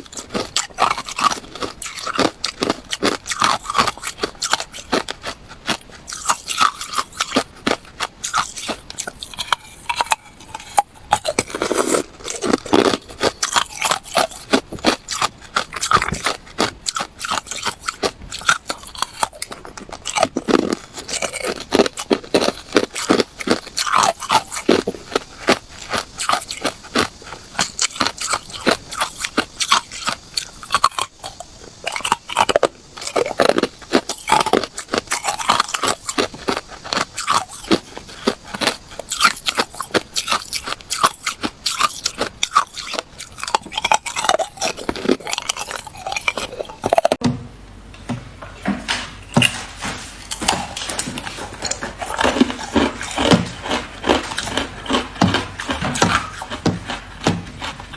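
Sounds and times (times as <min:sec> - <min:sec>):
ice being chewed: 0:00.0 - 0:47.2, 0:50.0 - 0:57.9.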